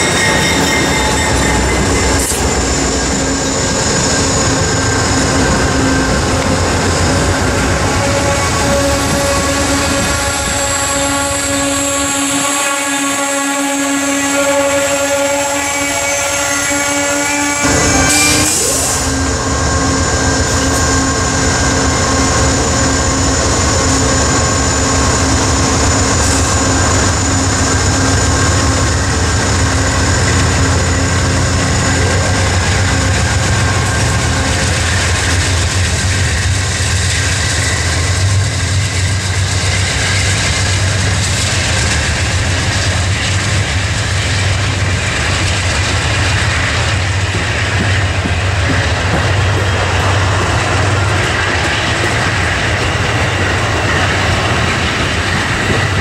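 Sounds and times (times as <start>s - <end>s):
diesel locomotive engine hum: 0.0s - 56.0s
train wheels rolling on rails: 0.0s - 56.0s.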